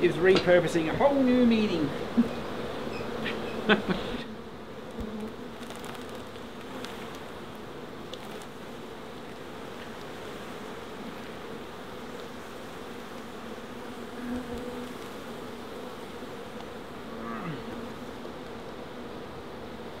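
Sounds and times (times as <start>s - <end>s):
honeybees buzzing: 0.0s - 20.0s
bee buzzing close by: 0.5s - 20.0s.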